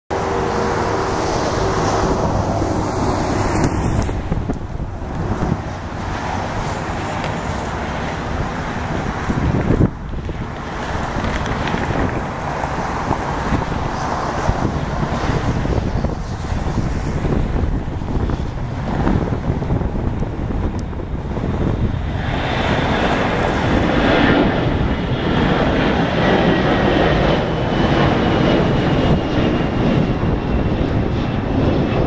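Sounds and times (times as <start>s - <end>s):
jet engines rumbling: 0.1s - 32.0s
wind buffeting microphone: 0.1s - 32.0s.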